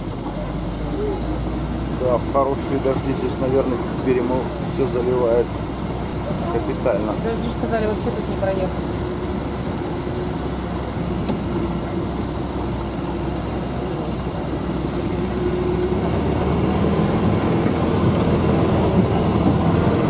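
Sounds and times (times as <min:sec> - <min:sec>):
off-road vehicle engine: 0:00.0 - 0:20.0
road noise on rough track: 0:00.0 - 0:20.0.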